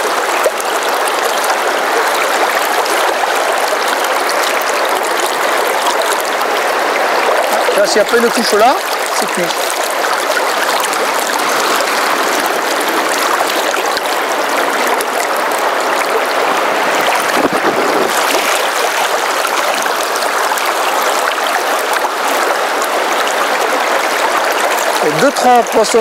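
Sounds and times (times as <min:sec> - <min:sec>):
river current rushing: 0:00.0 - 0:26.0.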